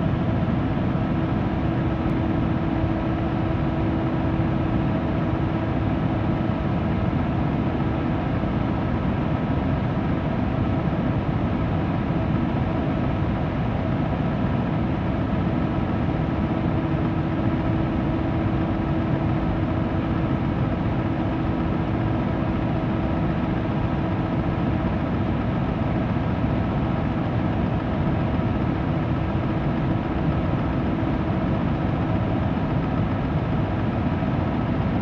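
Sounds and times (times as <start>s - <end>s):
electric fan air rush: 0.0s - 35.0s
faint motor hum: 0.0s - 35.0s.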